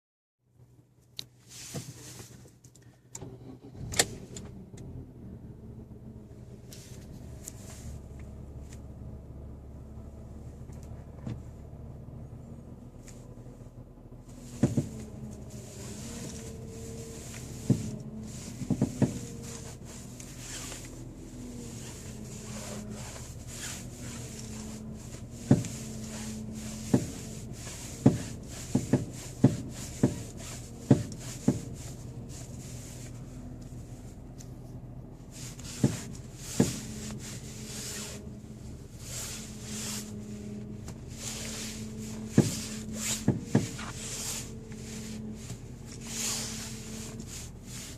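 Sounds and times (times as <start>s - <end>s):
car engine idling: 2.0s - 47.9s.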